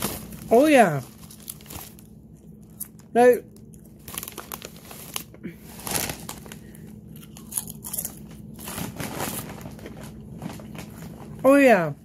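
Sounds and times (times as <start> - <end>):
potato chips crunched and chewed: 0.0 - 10.9.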